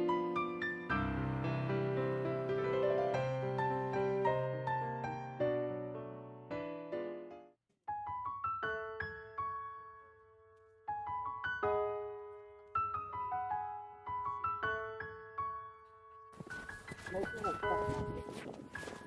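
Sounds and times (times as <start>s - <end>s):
soft piano arpeggios: 0.0s - 19.0s.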